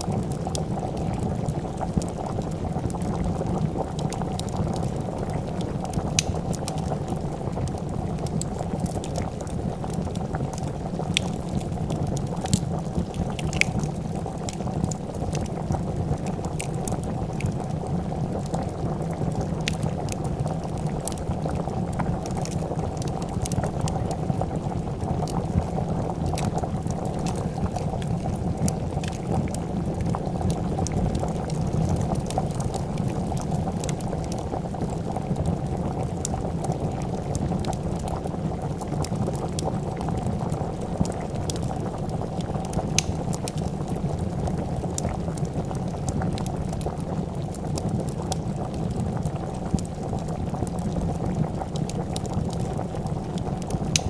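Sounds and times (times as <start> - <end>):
soup bubbling in a pot: 0.0 - 54.0
wood fire crackling: 0.0 - 54.0.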